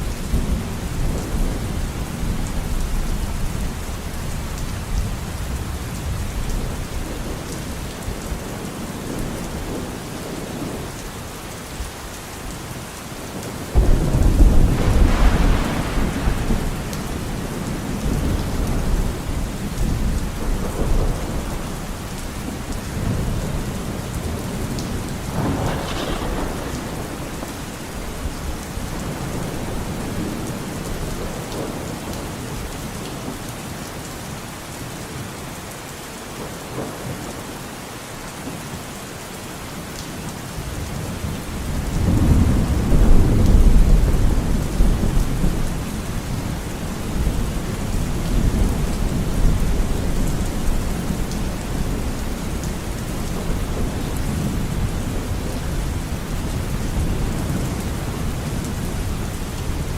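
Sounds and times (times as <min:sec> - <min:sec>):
thunder crack and rumble: 0:00.0 - 0:11.2, 0:13.3 - 0:33.2, 0:40.7 - 0:59.9
steady rain falling: 0:00.0 - 0:59.9.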